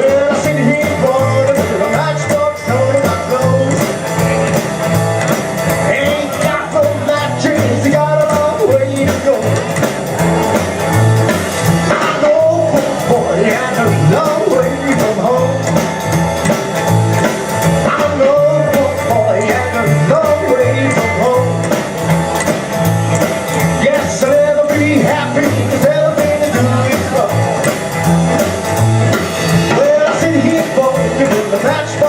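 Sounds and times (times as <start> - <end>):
electric guitar lines: 0.0 - 32.0
rock and roll band playing: 0.0 - 32.0.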